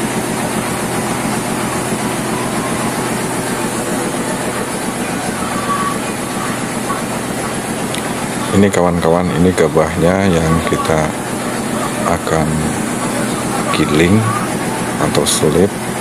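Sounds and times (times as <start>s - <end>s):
engine low drone: 0.0s - 16.0s
machinery rattling: 0.0s - 16.0s.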